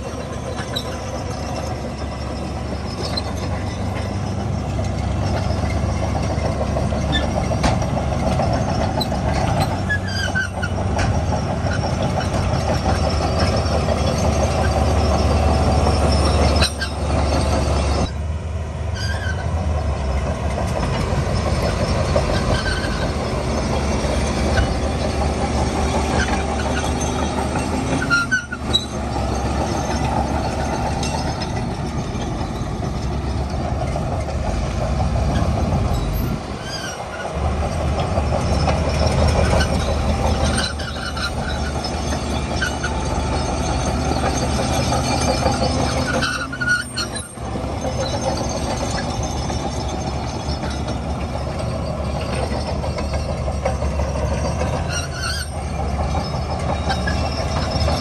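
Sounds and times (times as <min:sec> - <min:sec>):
bulldozer diesel engine: 0:00.0 - 0:58.0
bulldozer tracks squeaking: 0:00.0 - 0:58.0.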